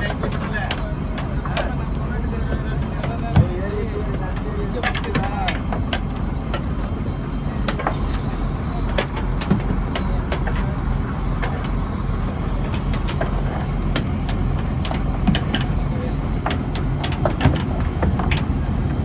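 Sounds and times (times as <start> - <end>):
boat engine running: 0.0 - 19.0
sharp clicks and knocks: 0.0 - 19.0.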